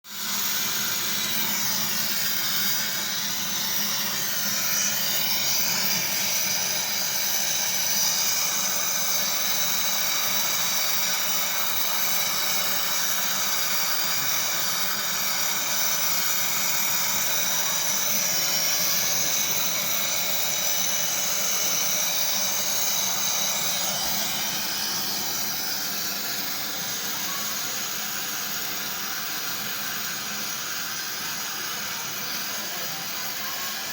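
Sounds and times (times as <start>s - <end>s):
refrigerant gas hissing through hose: 0.1s - 33.9s.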